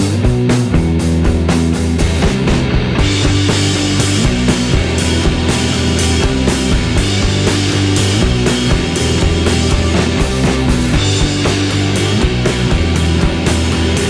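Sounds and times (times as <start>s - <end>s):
rock music: 0.0s - 14.0s.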